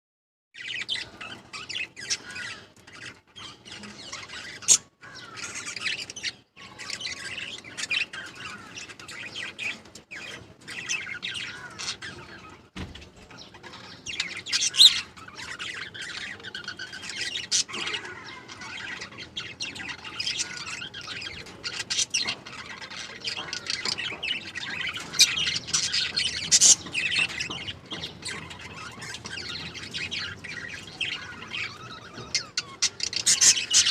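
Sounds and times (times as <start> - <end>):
parrots chirping and chattering: 0.6 - 33.9.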